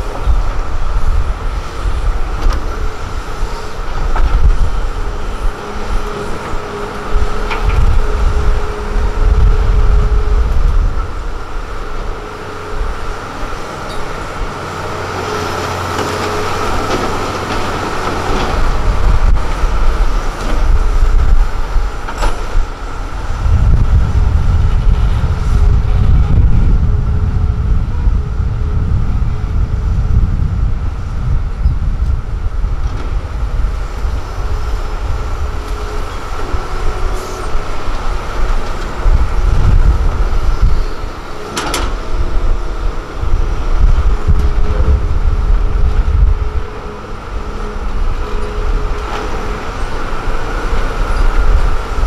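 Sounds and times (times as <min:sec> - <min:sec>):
excavator engine and hydraulics: 0:00.0 - 0:52.0.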